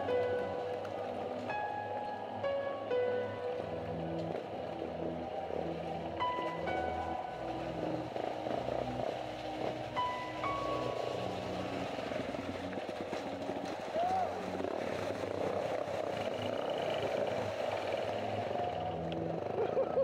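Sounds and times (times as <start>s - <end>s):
music of held low notes: 0.0s - 20.0s.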